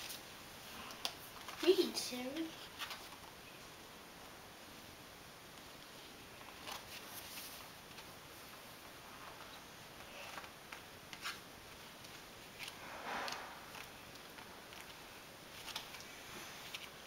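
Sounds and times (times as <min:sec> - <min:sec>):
paperback books rustling: 0:00.0 - 0:03.4, 0:06.4 - 0:17.0.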